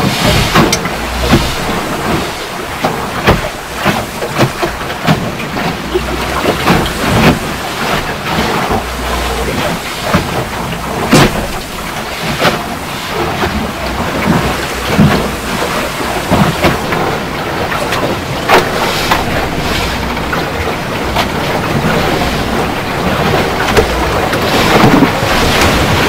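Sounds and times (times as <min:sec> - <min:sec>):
rush of water and wind: 0:00.0 - 0:26.0.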